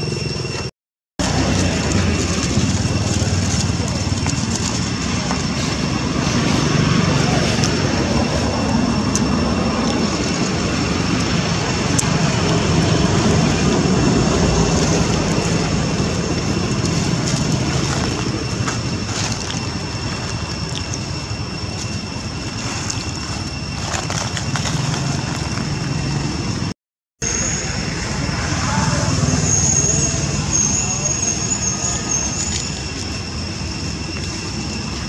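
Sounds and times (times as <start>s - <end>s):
low outdoor rumble: 0.0s - 35.0s
thin high whine: 0.0s - 35.0s.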